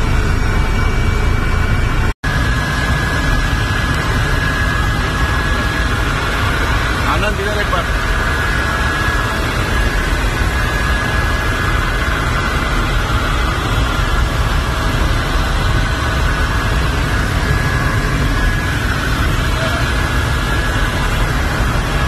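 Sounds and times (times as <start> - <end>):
helicopter cabin rumble: 0.0 - 22.0
high whine: 0.0 - 22.0.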